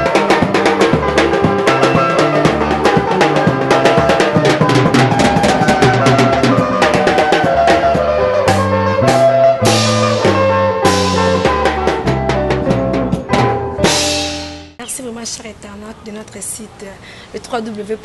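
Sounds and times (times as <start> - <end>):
bass line: 0.0 - 14.8
drum kit: 0.0 - 14.8
sustained pitched instruments: 0.0 - 14.8.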